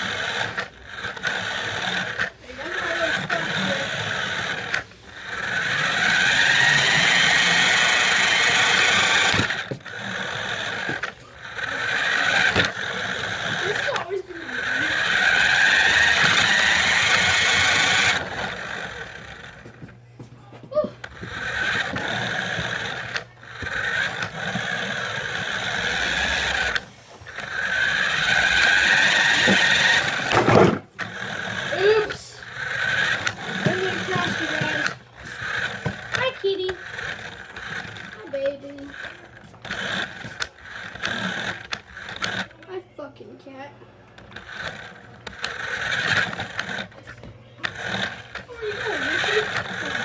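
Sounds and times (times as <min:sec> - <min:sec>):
toy car motor whining: 0:00.0 - 0:20.0, 0:20.6 - 0:50.0.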